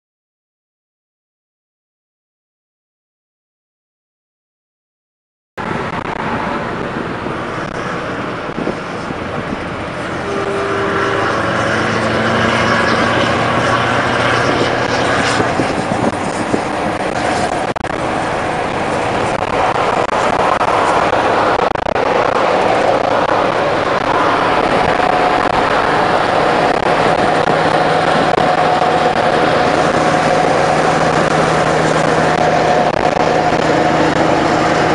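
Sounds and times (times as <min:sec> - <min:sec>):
road and wind noise: 0:05.6 - 0:34.9
truck engine pulling hard: 0:05.6 - 0:34.9.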